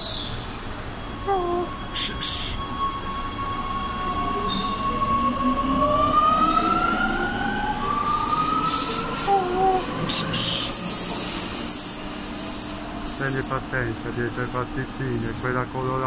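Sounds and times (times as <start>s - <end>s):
rumble of train wheels: 0.0s - 16.0s
train traction motors whining: 0.0s - 16.0s.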